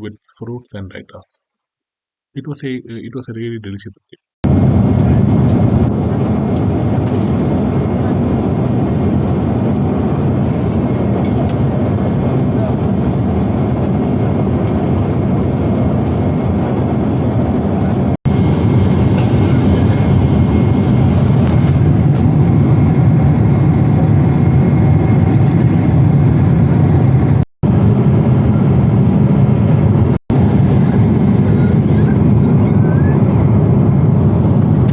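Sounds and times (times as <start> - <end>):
jet engine rumble in cabin: 4.4 - 34.9
airflow rushing: 4.5 - 34.9.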